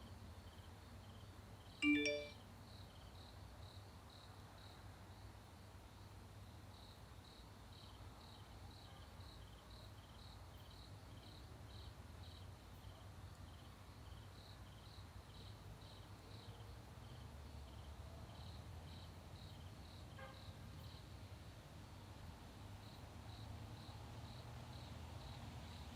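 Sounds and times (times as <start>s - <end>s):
crickets chirping faintly: 0.0s - 25.9s.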